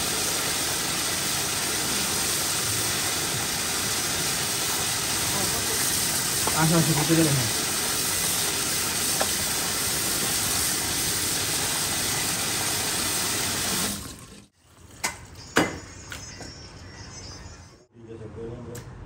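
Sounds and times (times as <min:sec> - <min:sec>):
tap water pouring and splashing: 0:00.0 - 0:15.3.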